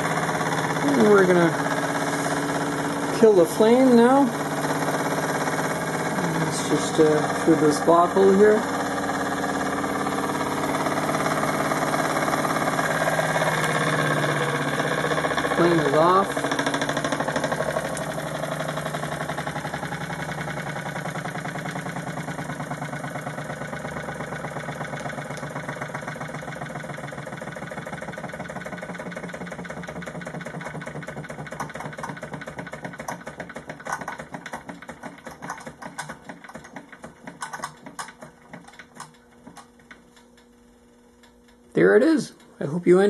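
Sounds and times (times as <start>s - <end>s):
toy steam engine chuffing: 0.0s - 39.2s
irregular mechanical clicks: 3.7s - 42.6s.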